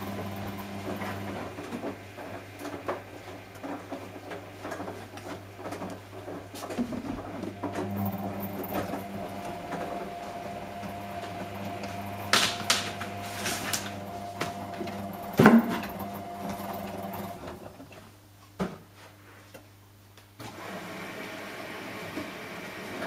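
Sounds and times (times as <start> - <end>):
washing machine motor hum: 0.0 - 18.0, 20.4 - 23.0.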